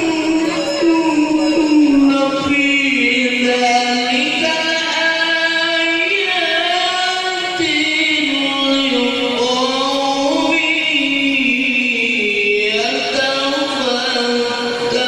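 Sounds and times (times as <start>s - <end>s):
person reciting melodically: 0.0s - 15.0s.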